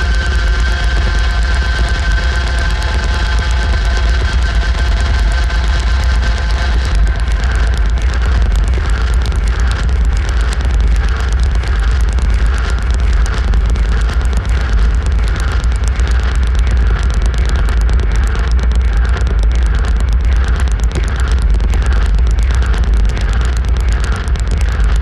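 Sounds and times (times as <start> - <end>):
distorted electronic noise music: 0.0 - 25.0
heavy bass rumble: 0.0 - 25.0.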